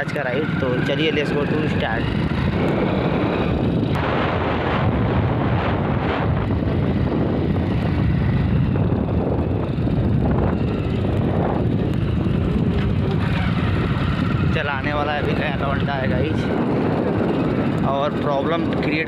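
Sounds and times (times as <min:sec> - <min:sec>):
motorbike engine and road noise: 0:00.0 - 0:19.0
wind buffeting microphone: 0:00.0 - 0:19.0.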